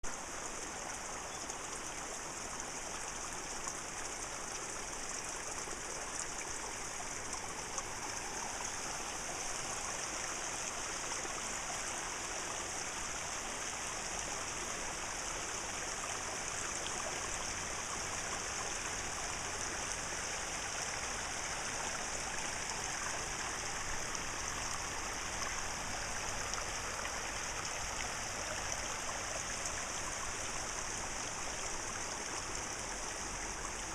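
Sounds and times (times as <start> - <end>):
waterfall rushing and splashing: 4.3 - 33.9.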